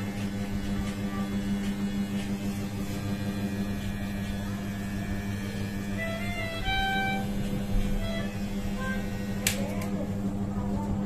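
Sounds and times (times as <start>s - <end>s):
electric hair clipper buzzing: 0.0s - 10.4s.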